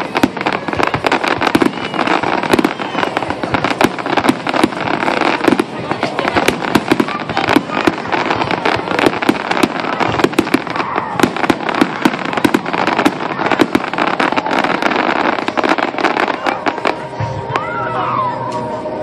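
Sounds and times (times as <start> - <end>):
fireworks crackle: 0.0 - 17.6.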